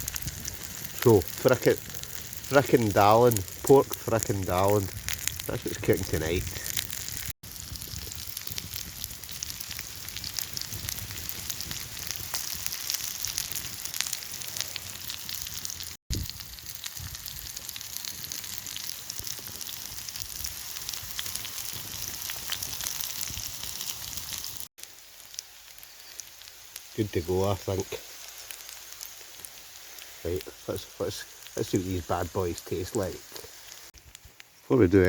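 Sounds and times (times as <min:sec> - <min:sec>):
food sizzling in oil: 0:00.0 - 0:34.7.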